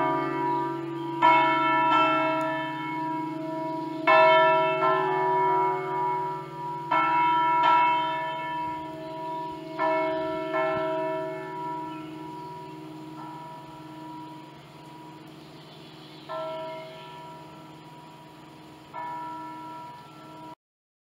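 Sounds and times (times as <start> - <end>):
swinging church bells ringing: 0.0 - 20.6.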